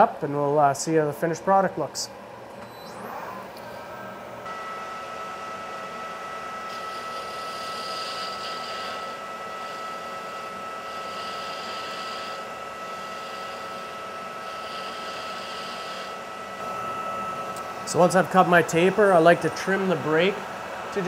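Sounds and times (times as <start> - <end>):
lathe motor and gear whine: 0.0 - 21.0.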